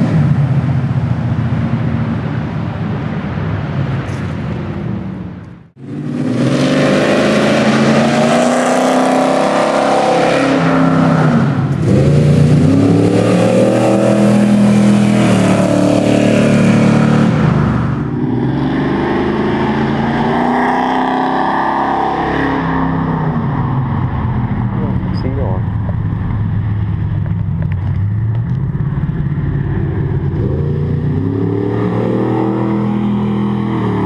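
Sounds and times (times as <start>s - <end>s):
car engines revving hard: 0.0s - 34.0s
quieter engine: 0.0s - 34.0s.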